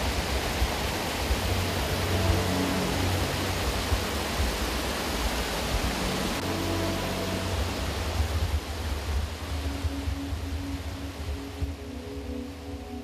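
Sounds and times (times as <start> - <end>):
faint music: 0.0 - 13.0
steady rushing noise: 0.0 - 13.0
heavy low rumble: 0.2 - 11.8.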